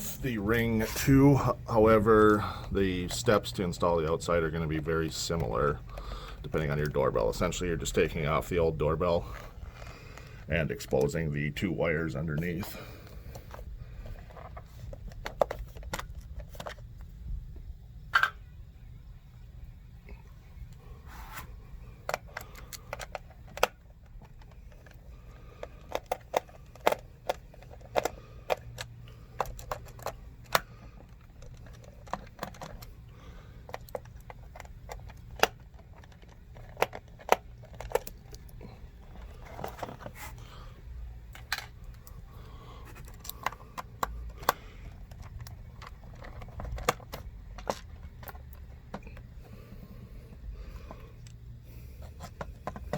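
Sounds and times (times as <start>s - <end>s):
plastic being handled: 0.0s - 17.2s, 20.8s - 52.9s.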